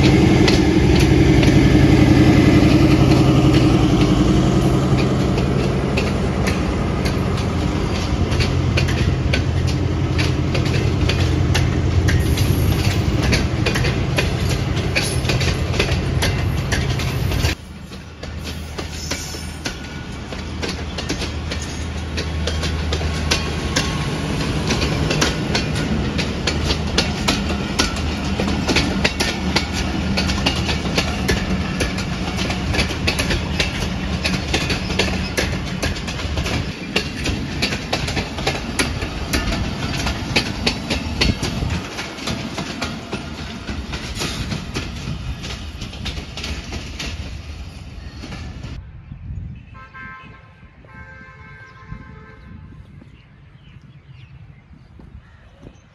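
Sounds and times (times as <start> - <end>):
wheels clicking over rail joints: 0.0 - 48.8
train wheels rumbling on rail: 0.0 - 48.9.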